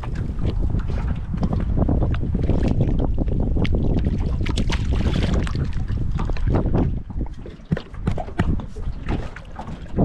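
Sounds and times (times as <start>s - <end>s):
fish thrashing in water: 0.0s - 10.0s
wind buffeting microphone: 0.0s - 10.0s.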